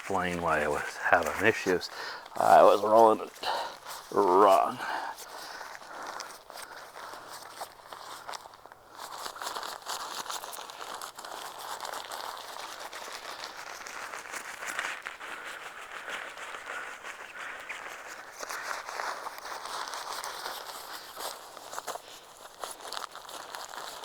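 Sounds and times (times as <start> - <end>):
fabric crinkling and rustling: 0.0 - 24.0.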